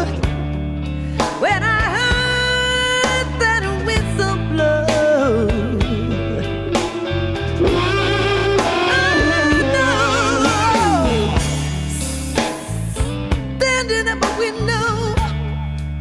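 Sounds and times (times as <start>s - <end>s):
electric blues band playing: 0.0s - 16.0s
wavering lead guitar notes: 0.0s - 16.0s.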